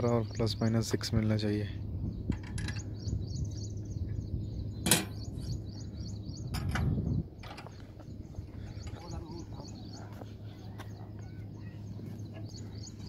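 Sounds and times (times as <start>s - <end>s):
low hum: 0.0s - 13.0s
bird chirping: 1.7s - 13.0s.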